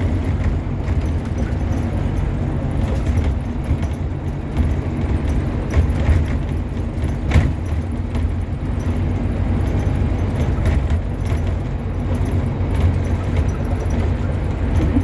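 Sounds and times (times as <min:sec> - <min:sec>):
bus diesel engine running: 0:00.0 - 0:15.0
cabin rattling: 0:00.0 - 0:15.0.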